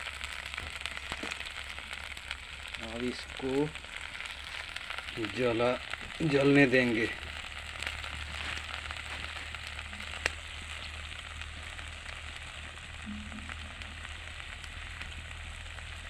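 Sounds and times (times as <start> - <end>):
small pops: 0.0 - 6.6, 7.2 - 16.0
juice sizzling in hot ghee: 0.0 - 16.0.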